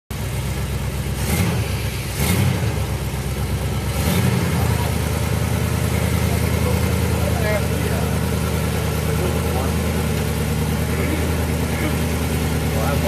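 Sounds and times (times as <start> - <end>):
vehicle engine running low: 0.1 - 13.0.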